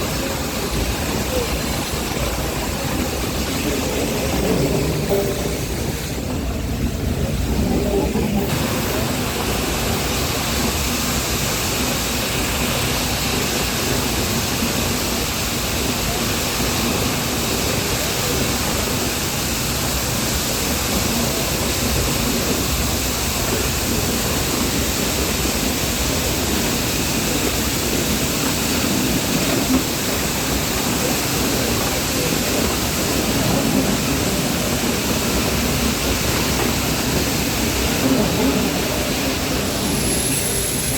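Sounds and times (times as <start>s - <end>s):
train hiss: 0.0s - 40.9s
train rushing noise: 0.0s - 40.9s.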